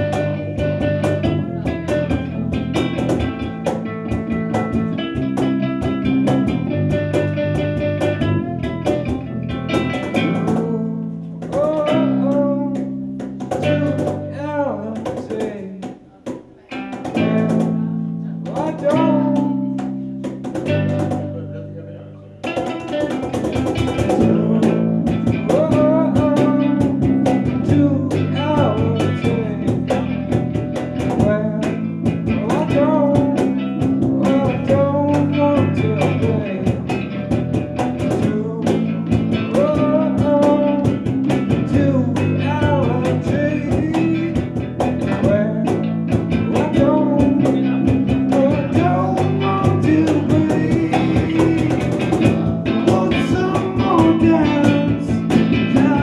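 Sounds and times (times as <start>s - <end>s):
man singing: 0.0s - 20.0s, 20.7s - 56.0s
steady drum beat: 0.0s - 21.6s, 22.4s - 56.0s
acoustic guitar: 0.0s - 56.0s
bass guitar: 0.0s - 56.0s.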